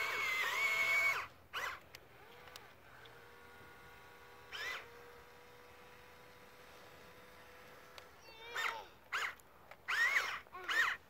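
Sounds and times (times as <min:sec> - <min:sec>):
electric motors and gears whining: 0:00.0 - 0:11.0.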